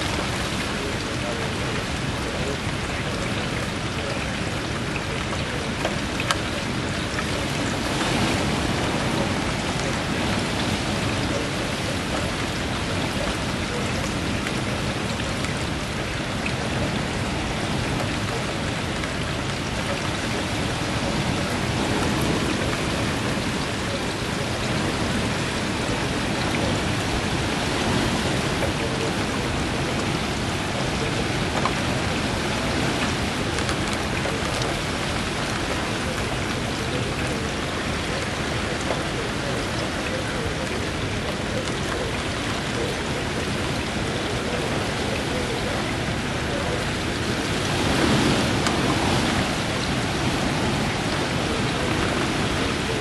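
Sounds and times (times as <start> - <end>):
rain: 0.0 - 53.0
strong wind: 0.0 - 53.0.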